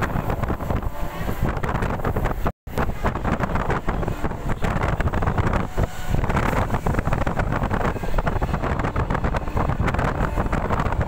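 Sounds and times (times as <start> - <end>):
train wheels rumbling on track: 0.0 - 11.0
wind buffeting microphone: 0.0 - 11.0.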